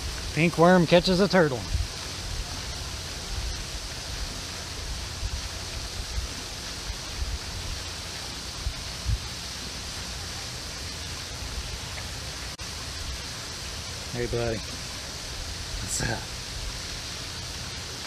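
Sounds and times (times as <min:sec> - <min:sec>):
fountain spray hissing: 0:00.0 - 0:18.0.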